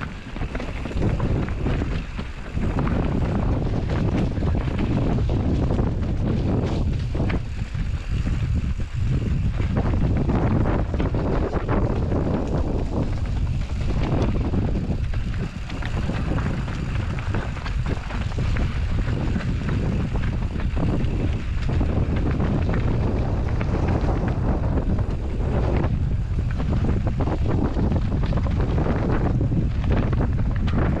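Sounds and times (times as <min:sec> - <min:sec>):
bike tyres rolling over ground: 0:00.0 - 0:31.0
wind rush on microphone: 0:00.0 - 0:31.0.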